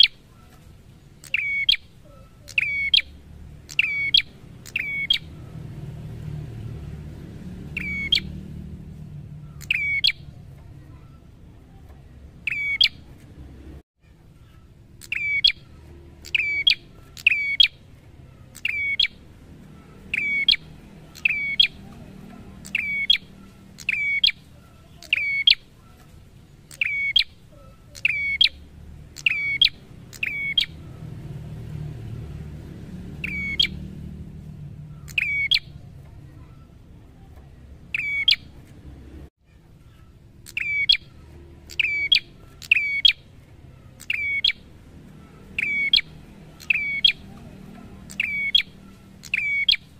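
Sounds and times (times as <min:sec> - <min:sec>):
bird calling sharp notes: 0:00.0 - 0:05.8, 0:07.5 - 0:11.3, 0:12.4 - 0:13.1, 0:14.4 - 0:31.0, 0:33.2 - 0:35.8, 0:37.9 - 0:38.6, 0:39.8 - 0:49.9.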